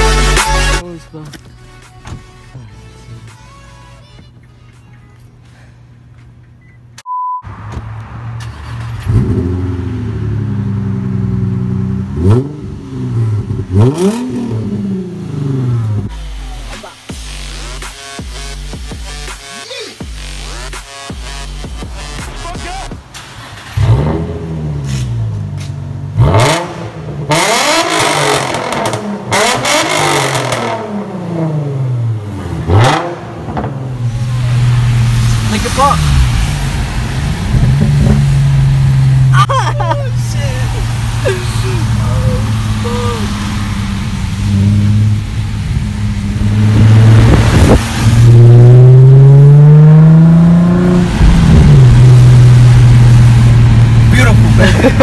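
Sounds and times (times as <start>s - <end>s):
car engine revving: 0.0s - 3.9s, 7.5s - 55.0s.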